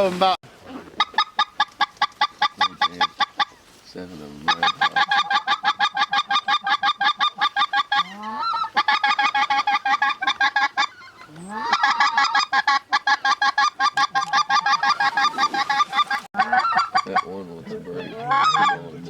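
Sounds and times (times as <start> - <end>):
goose call honking and clucking: 0.6 - 3.6, 4.2 - 19.0.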